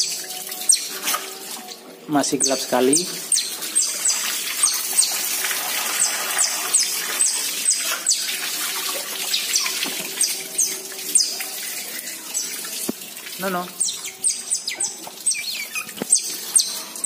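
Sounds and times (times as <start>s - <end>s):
hose water hissing on concrete: 0.0s - 17.0s.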